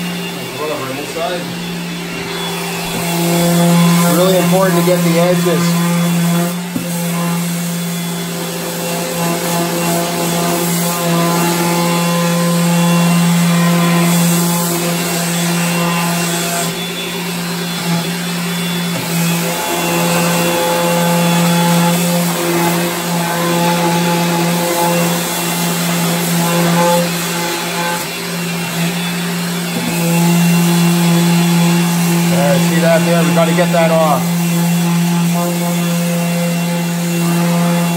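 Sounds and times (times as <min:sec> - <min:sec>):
orbital sander humming: 0:00.0 - 0:37.9
vacuum hose running: 0:00.0 - 0:37.9.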